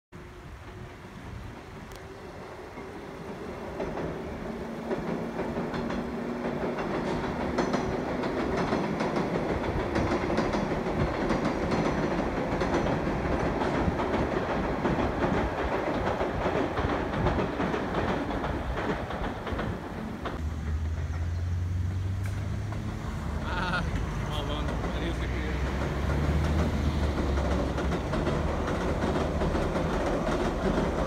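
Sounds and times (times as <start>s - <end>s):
train rumbling over bridge: 0.2s - 31.0s
wheels clacking over rail joints: 1.6s - 31.0s.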